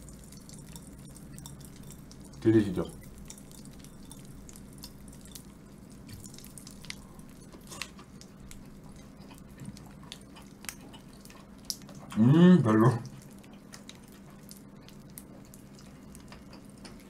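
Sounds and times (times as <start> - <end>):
popping candy crackling: 0.0 - 17.0.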